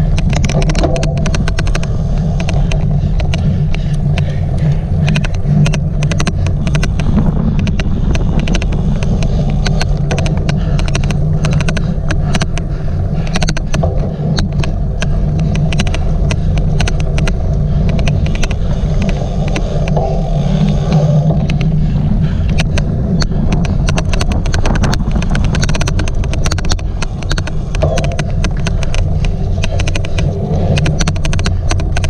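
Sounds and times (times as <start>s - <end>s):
rumble of wind and tyres: 0.0s - 32.0s
sharp irregular clicking: 0.0s - 32.0s.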